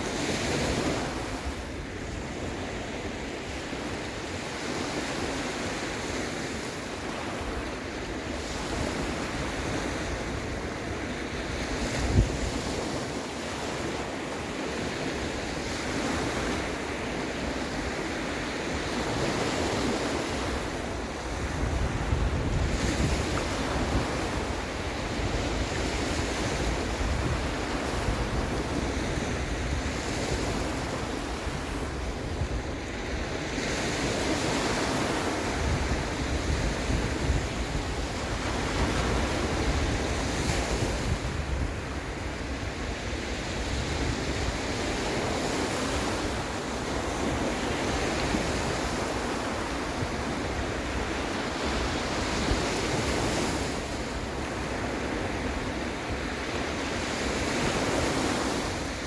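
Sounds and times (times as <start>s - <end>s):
sea waves breaking: 0.0s - 59.0s
wind: 0.0s - 59.0s.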